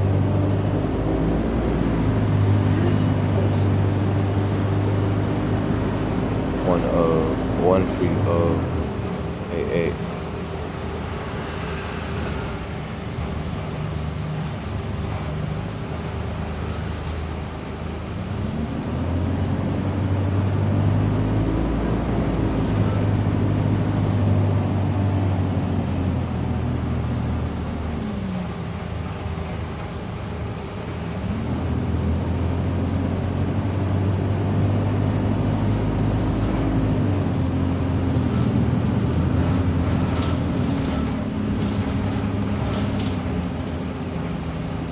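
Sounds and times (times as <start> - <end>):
bus diesel engine accelerating: 0.0 - 44.9.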